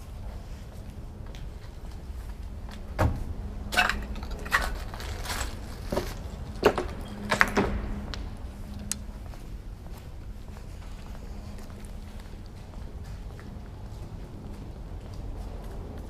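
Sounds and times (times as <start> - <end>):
faint steady hum: 0.0 - 16.0
footsteps knocking and scraping: 0.0 - 16.0.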